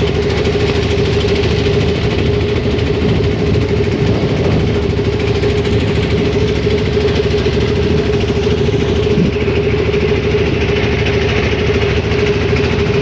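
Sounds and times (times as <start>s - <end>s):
boat engine pulsing: 0.0s - 13.0s.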